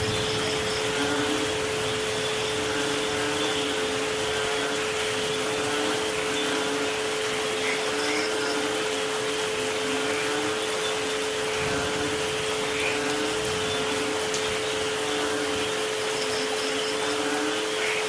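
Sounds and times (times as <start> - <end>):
rain-like hiss: 0.0 - 18.0.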